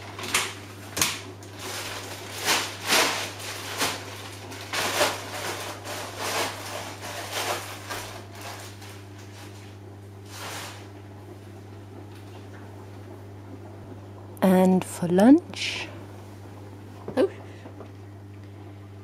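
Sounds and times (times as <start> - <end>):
washing machine low hum: 0.0 - 19.0
washing machine sloshing: 0.0 - 19.0.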